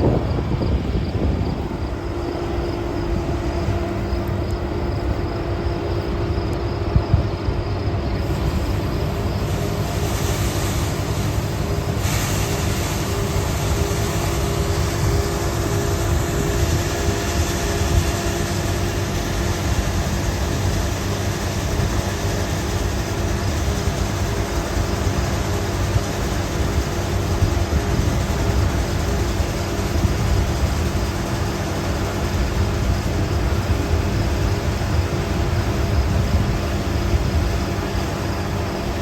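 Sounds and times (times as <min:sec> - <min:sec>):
combine harvester running: 0:00.0 - 0:39.0.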